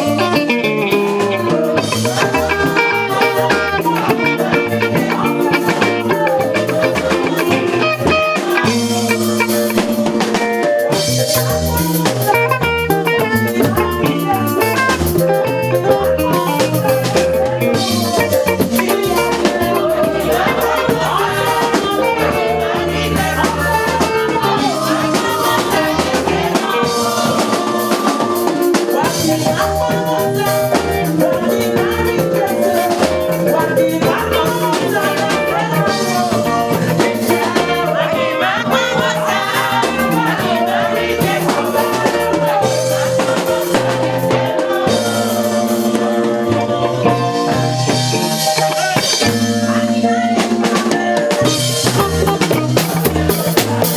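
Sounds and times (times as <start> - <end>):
drums: 0.0 - 53.9
keyboard: 0.0 - 53.9
person singing: 0.0 - 53.9.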